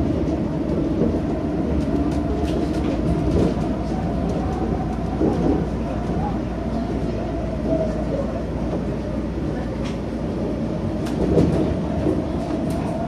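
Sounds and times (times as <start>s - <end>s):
monorail running rumble: 0.0s - 13.0s.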